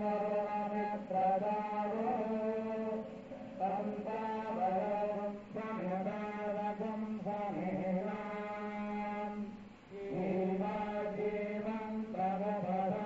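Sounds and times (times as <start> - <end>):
devotional chanting: 0.0 - 13.0.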